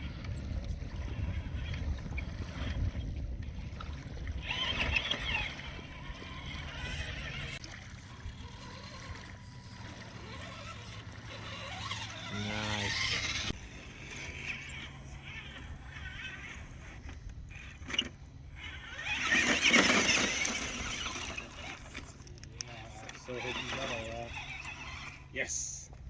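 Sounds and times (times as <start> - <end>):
electric motor and gearbox hum: 0.0 - 26.0
rough scraping: 4.4 - 25.3.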